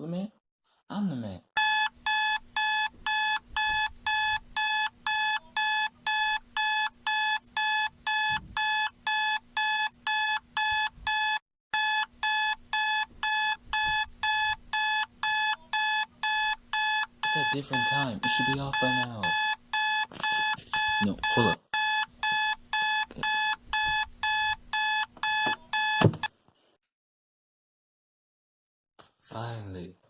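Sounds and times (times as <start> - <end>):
alarm clock beeping: 1.6 - 26.3.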